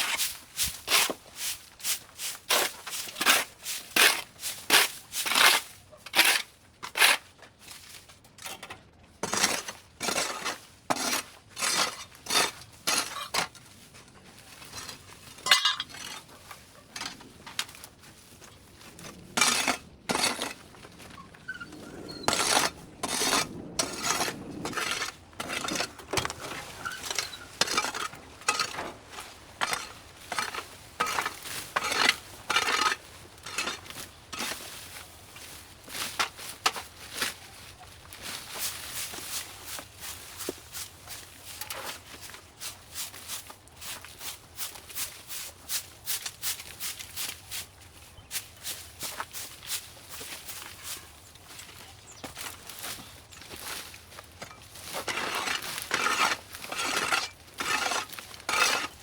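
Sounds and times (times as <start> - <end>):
hand tools scraping debris: 0.0 - 7.3, 8.4 - 45.2, 48.7 - 59.0.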